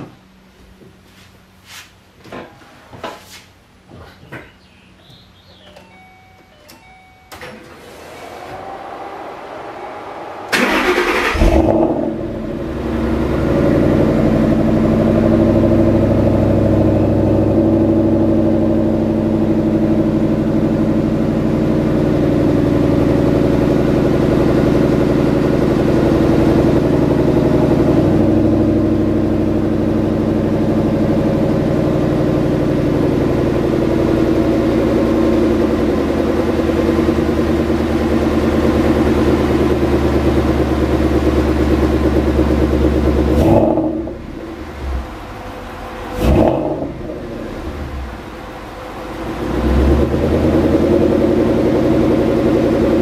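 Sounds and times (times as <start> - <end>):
rising electric hum: 6.8 - 53.0
car engine cranking and idling: 7.3 - 53.0.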